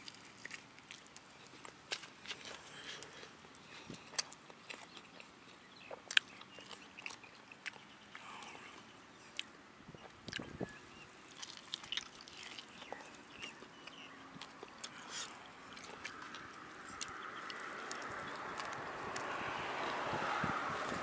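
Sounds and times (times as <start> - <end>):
person chewing crispy food: 0.0 - 9.5, 10.2 - 19.8.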